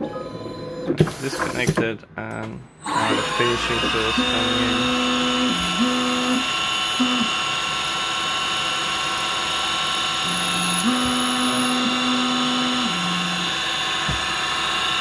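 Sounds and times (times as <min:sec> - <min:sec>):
feed motor hum: 0:02.8 - 0:15.0
lathe spindle whine: 0:02.8 - 0:15.0.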